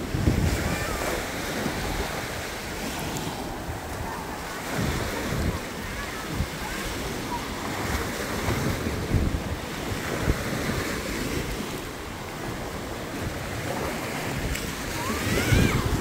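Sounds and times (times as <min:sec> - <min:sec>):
surf breaking on a beach: 0:00.0 - 0:16.0
wind buffeting the microphone: 0:00.0 - 0:16.0.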